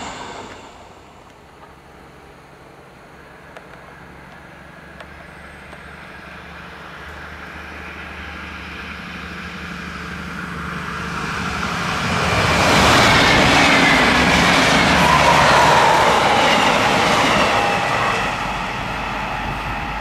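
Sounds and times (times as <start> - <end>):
diesel train engine drone: 0.0 - 20.0
high whine of train: 0.0 - 20.0.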